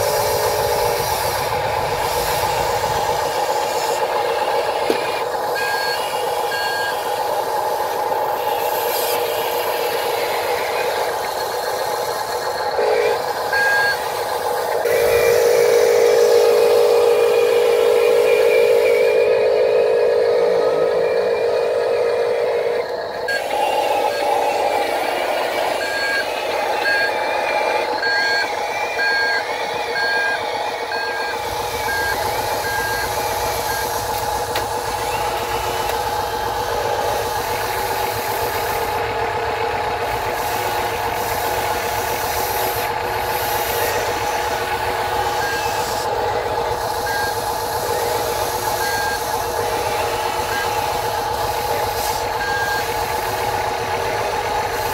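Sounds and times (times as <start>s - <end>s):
heavy machine engine drone: 0.0s - 54.9s
reversing alarm beeping: 0.0s - 54.9s.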